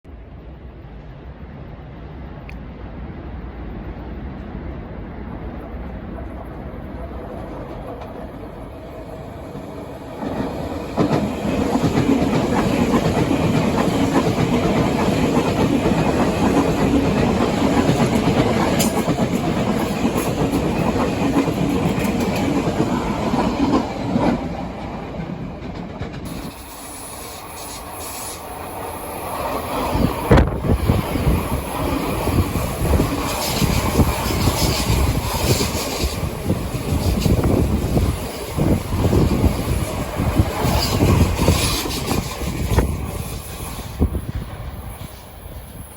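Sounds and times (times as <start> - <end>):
subway train wheels clacking: 0.2 - 45.9.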